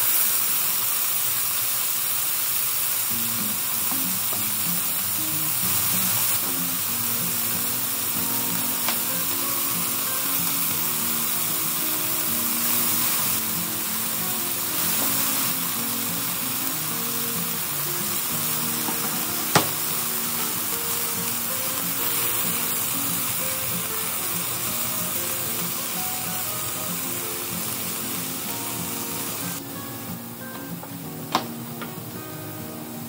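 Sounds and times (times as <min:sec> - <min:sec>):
food sizzling in a frying pan: 0:00.0 - 0:33.0
spatula stir-frying: 0:00.0 - 0:33.0.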